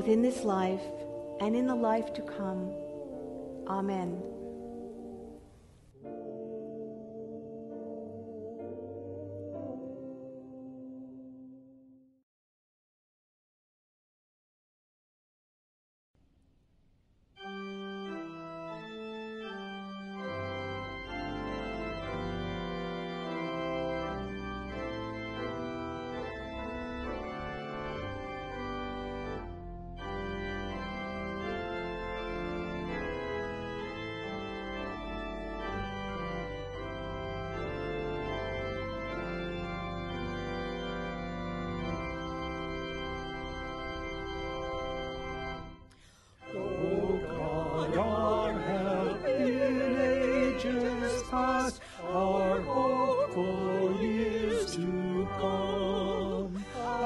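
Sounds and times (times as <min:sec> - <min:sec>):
organ playing held chords: 0:00.0 - 0:11.3, 0:17.4 - 0:57.0.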